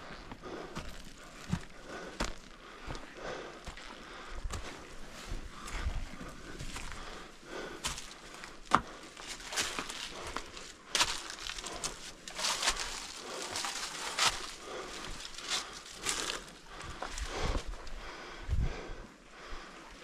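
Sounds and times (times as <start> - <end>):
person breathing hard: 0.0 - 20.0
footsteps crunching on snow: 0.4 - 17.7.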